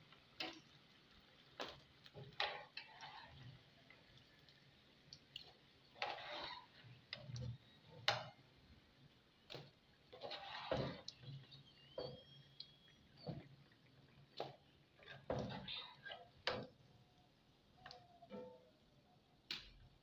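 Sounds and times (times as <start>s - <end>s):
hot oil clicking and crackling: 0.0s - 18.1s.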